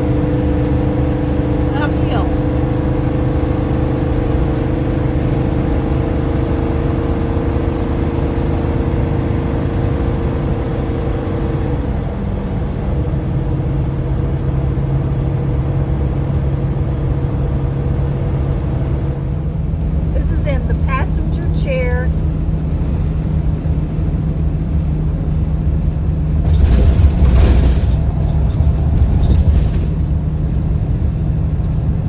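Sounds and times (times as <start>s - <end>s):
engine and road noise in cab: 0.0s - 32.0s.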